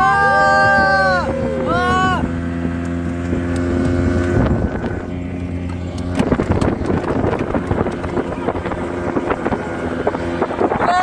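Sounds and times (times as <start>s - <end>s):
outboard motor running: 0.0s - 11.0s
wind buffeting microphone: 0.0s - 11.0s
hull banging on waves: 0.4s - 11.0s.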